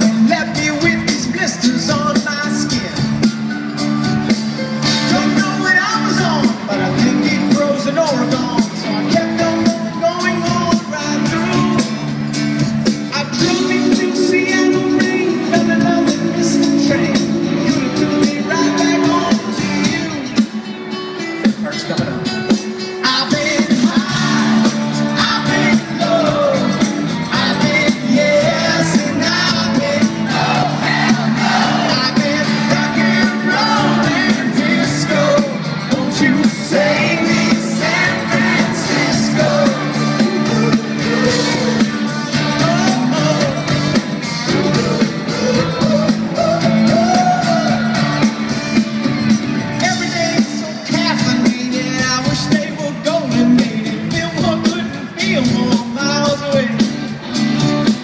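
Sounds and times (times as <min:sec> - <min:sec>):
lead singer: 0:00.0 - 0:58.0
pop-rock band playing: 0:00.0 - 0:58.0.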